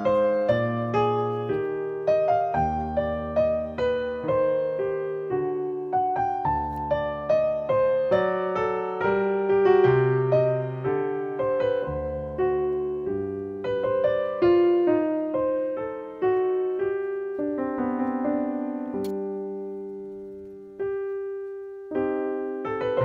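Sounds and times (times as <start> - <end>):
slow piano notes: 0.0 - 23.0.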